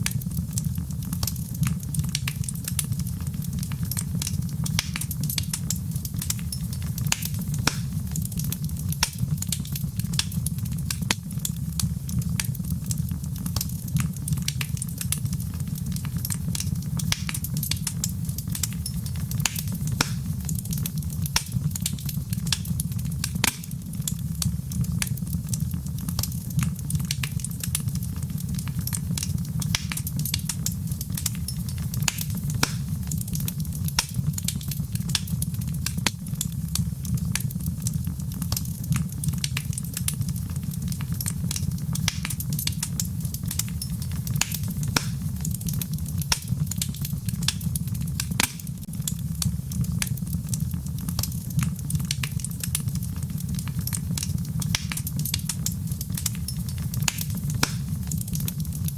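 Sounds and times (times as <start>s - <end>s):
fire crackling and popping: 0.0s - 58.9s
low rumble of fire: 0.0s - 58.9s.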